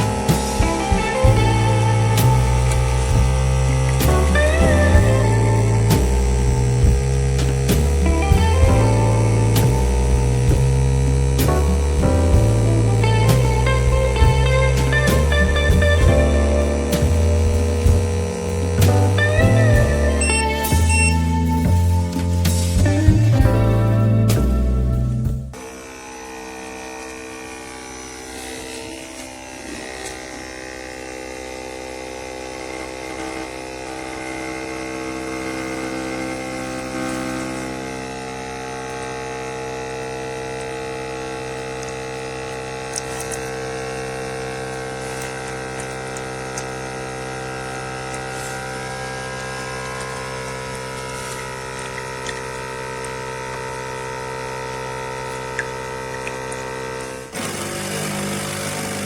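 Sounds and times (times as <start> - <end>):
coffee maker pump humming: 0.0 - 24.3, 25.5 - 59.0.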